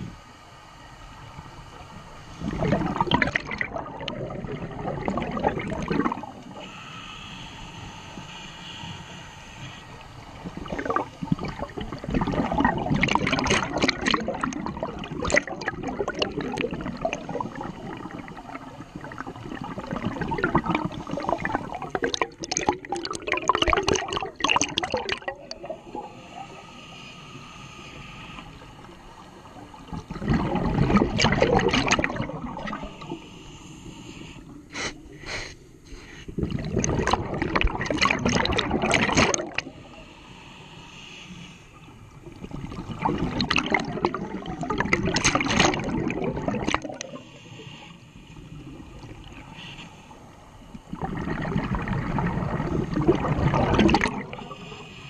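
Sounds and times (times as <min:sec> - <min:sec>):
underwater bubbles gurgling: 0:00.0 - 0:55.0.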